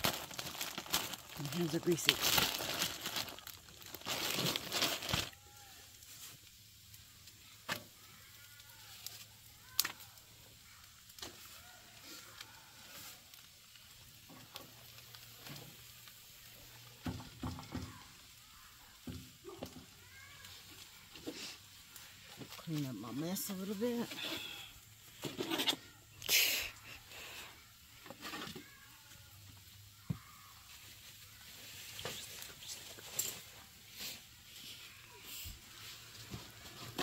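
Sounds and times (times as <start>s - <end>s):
crinkling rustle: 0.0s - 26.1s, 27.2s - 37.0s.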